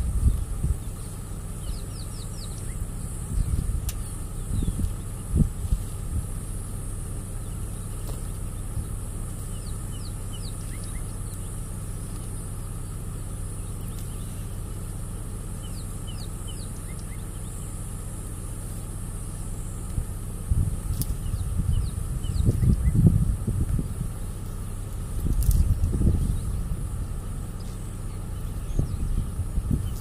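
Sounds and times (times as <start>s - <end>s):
constant high hiss: 0.0s - 30.0s
vehicle engine idling: 0.0s - 30.0s.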